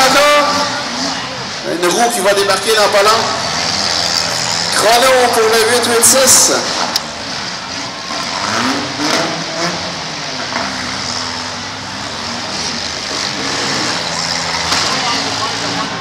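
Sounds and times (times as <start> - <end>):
car engines revving: 0.0 - 16.0
crowd hubbub: 0.0 - 16.0.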